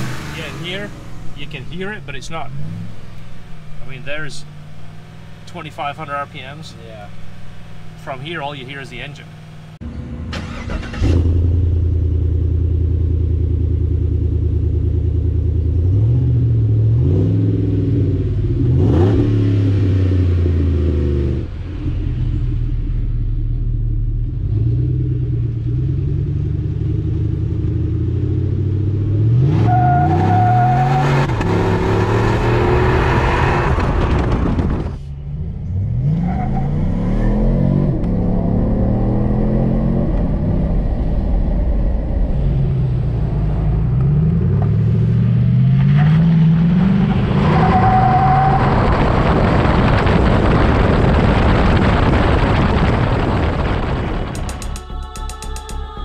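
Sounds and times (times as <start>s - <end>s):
truck engine accelerating hard: 0.0s - 54.9s.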